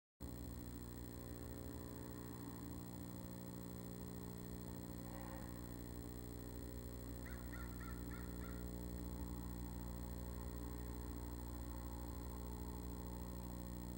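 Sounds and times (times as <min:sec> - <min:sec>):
steady electrical hum: 0:00.2 - 0:13.9.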